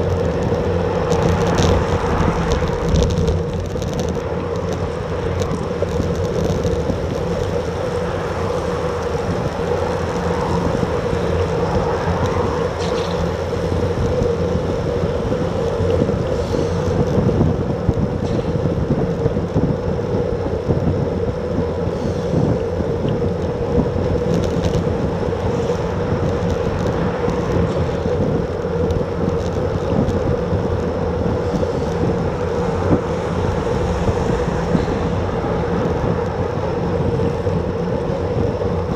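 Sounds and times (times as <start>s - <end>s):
low rumble: 0.0s - 38.9s
wind rushing over microphone: 0.0s - 38.9s.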